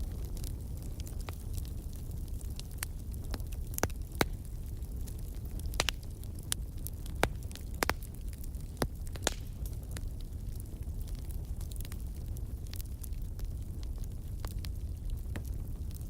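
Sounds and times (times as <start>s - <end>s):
log fire crackling and popping: 0.0s - 16.0s.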